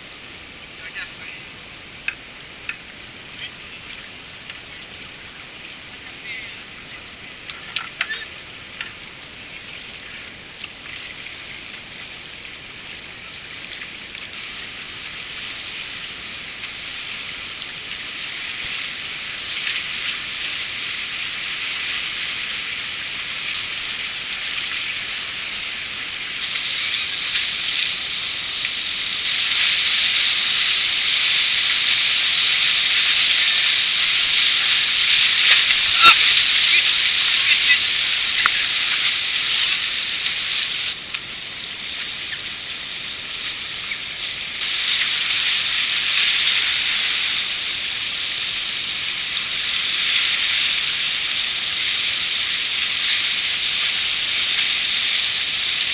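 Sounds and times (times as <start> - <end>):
rushing river water: 0.0 - 55.9.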